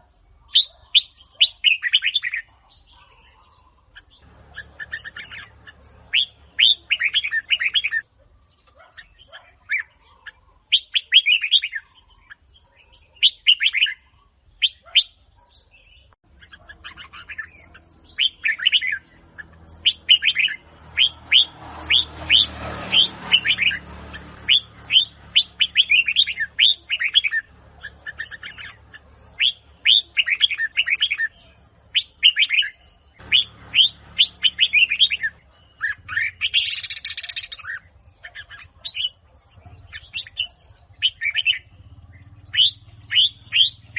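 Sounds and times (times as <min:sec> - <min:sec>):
bird singing chirpy phrases: 0:00.0 - 0:43.9.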